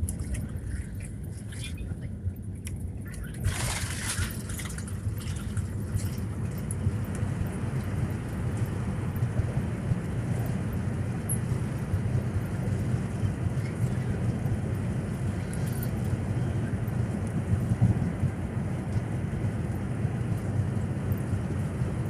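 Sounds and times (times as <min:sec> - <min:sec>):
aircraft cabin rumble: 0:00.0 - 0:22.0.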